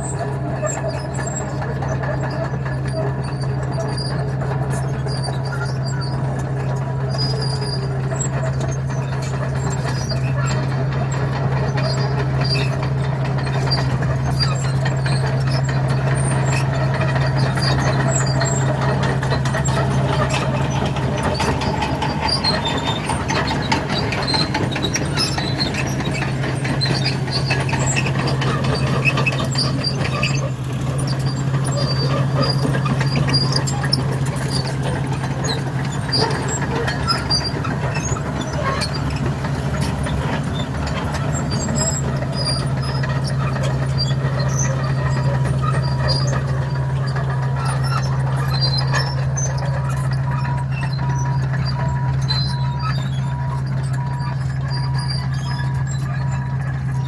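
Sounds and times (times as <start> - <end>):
bulldozer diesel engine running: 0.0 - 57.0
tracks and blade clanking: 7.6 - 57.0.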